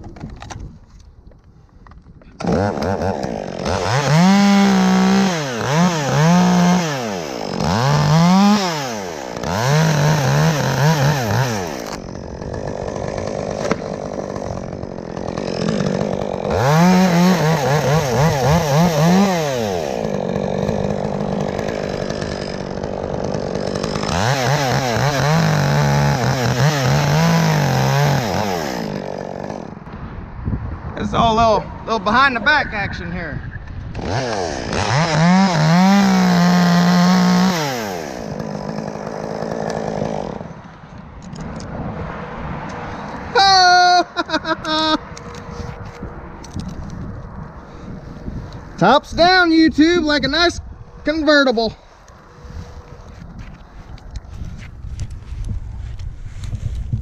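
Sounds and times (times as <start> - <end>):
chainsaw cutting limbs: 2.0 - 30.0, 33.7 - 57.0.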